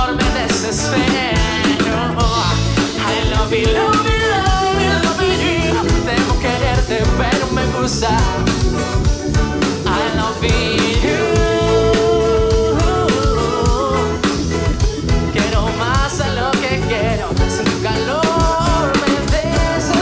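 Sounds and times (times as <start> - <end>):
drum kit: 0.0 - 20.0
guitars: 0.0 - 20.0
keyboard: 0.0 - 20.0
people singing: 0.0 - 20.0.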